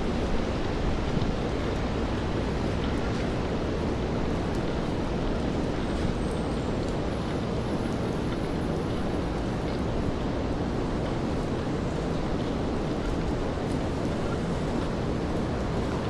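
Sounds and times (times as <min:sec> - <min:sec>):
steady rainfall: 0:00.0 - 0:16.0
traffic on wet roads: 0:00.0 - 0:16.0.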